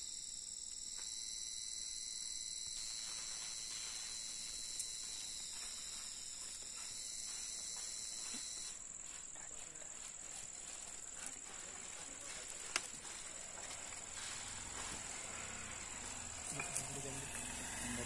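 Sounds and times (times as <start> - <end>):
shrill insect chorus: 0.0 - 18.0.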